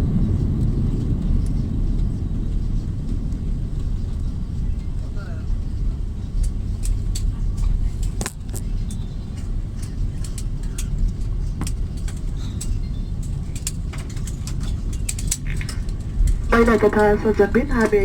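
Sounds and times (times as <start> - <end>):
aircraft rolling on runway rumble: 0.0 - 18.0.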